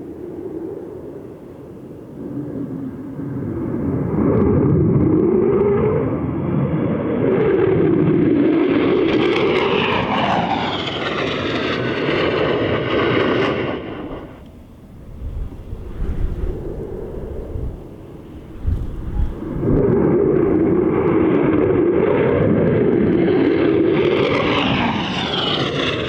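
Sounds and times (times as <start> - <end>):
low-flying military aircraft passing: 0.0 - 26.0.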